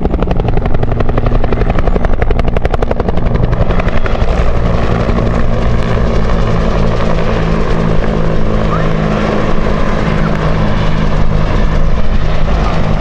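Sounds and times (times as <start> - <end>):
helicopters flying past: 0.0 - 13.0.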